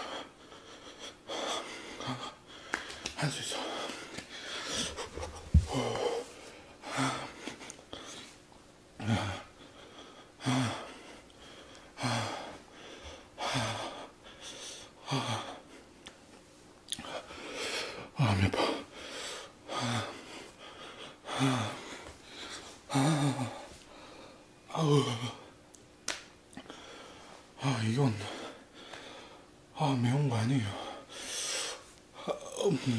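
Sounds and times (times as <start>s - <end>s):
man breathing hard: 0.0s - 8.4s, 9.0s - 16.0s, 17.0s - 25.6s, 26.6s - 29.5s, 30.5s - 32.9s.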